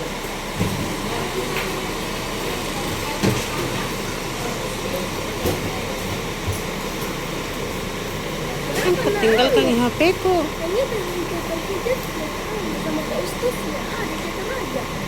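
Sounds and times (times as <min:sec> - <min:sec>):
faint voices: 0:00.0 - 0:15.0
vehicle engine rumbling: 0:00.0 - 0:15.0.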